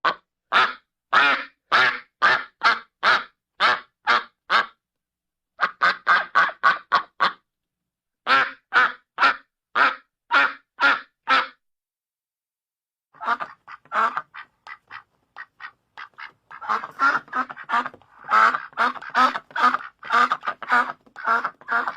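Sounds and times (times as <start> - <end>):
duck quacking: 0.1 - 4.8, 5.6 - 7.4, 8.2 - 11.6, 13.2 - 21.9.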